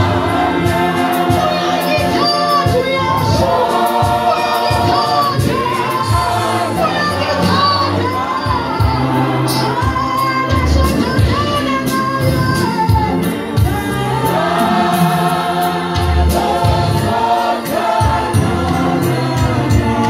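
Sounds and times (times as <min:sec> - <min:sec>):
band with bass and drums: 0:00.0 - 0:20.0
choir singing: 0:00.0 - 0:20.0.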